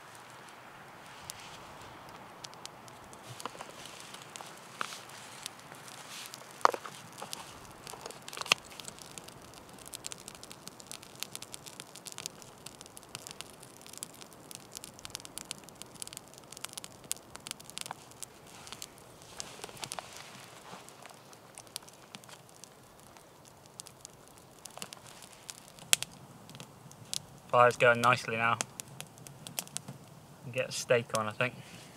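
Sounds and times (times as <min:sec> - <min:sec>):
kindling fire crackling and popping: 0:00.0 - 0:31.9
loud cracks of fire: 0:00.0 - 0:31.9.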